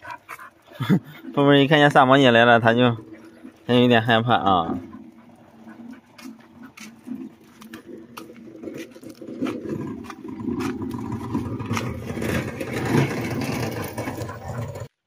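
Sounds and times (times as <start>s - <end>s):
vehicle engine and tyres on road: 0.0s - 15.0s.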